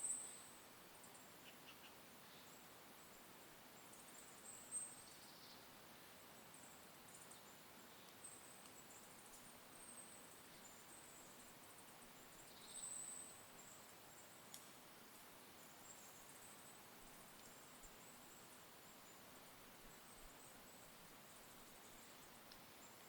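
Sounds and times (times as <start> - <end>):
soft hiss: 0.0 - 23.0.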